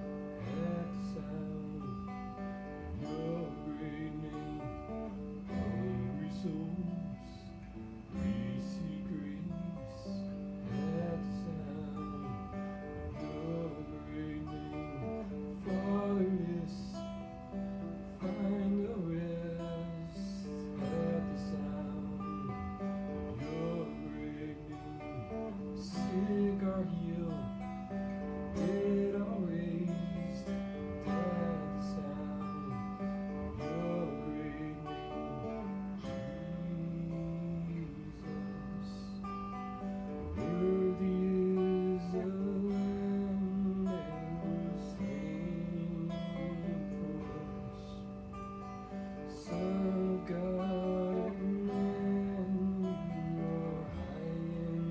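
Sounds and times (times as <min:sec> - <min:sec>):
acoustic guitar strumming: 0:00.0 - 0:54.9
person singing: 0:00.0 - 0:54.9.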